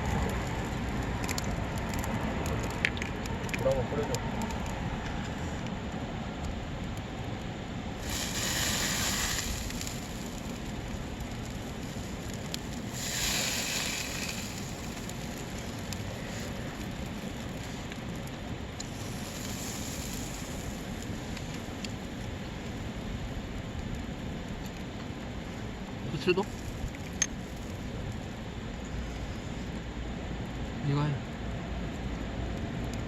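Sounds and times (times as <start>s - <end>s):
water hissing on campfire: 0.0s - 33.0s.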